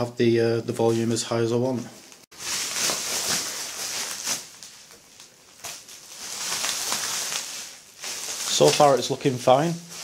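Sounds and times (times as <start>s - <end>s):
bubble wrap rustling and crinkling: 2.0s - 10.0s.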